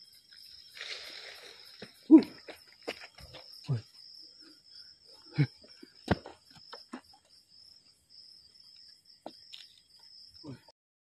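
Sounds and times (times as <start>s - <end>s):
crickets trilling: 0.0s - 10.7s.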